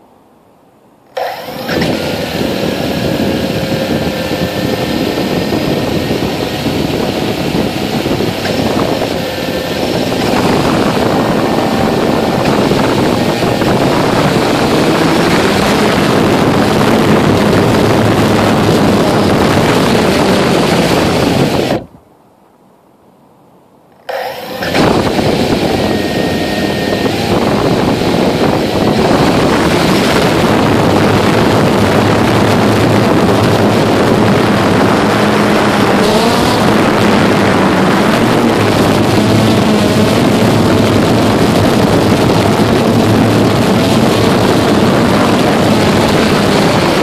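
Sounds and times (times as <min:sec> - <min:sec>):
quadcopter motors whirring: 0:01.1 - 0:21.9, 0:24.0 - 0:47.0.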